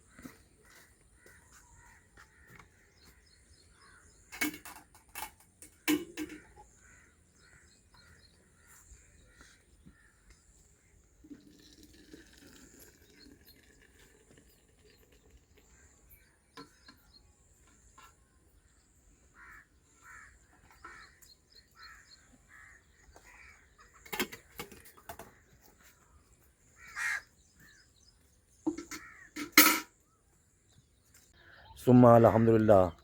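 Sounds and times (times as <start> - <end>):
birds calling: 0.0 - 11.7, 12.7 - 33.0.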